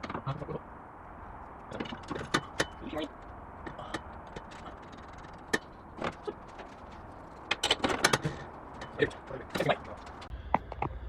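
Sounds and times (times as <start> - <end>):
tools and car parts clinking: 0.0 - 0.7, 1.3 - 10.9.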